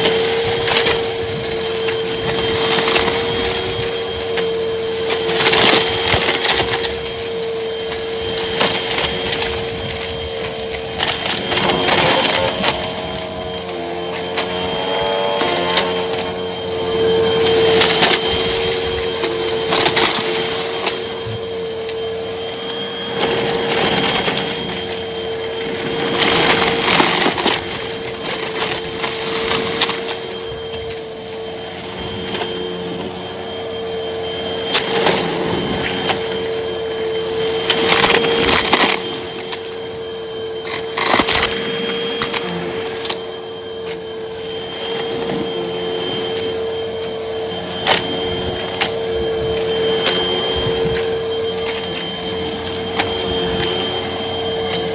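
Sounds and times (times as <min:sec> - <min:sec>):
debris crackling in vacuum: 0:00.0 - 0:54.9
vacuum cleaner motor hum: 0:00.0 - 0:54.9.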